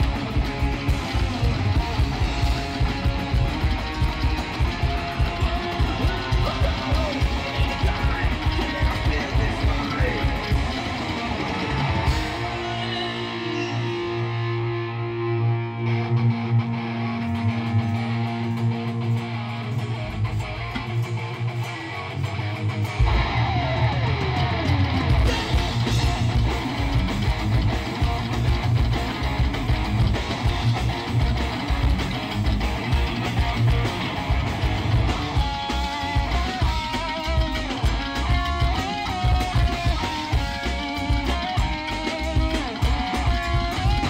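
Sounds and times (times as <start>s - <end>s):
drums: 0.0s - 44.0s
electric guitar: 0.0s - 44.0s
upright bass: 0.0s - 44.0s.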